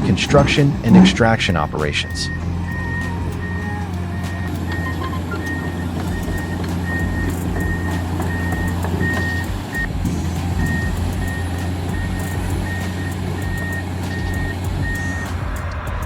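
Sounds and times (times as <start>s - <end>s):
reversing alarm beeping: 0.0s - 15.4s
diesel engine drone: 0.0s - 16.0s.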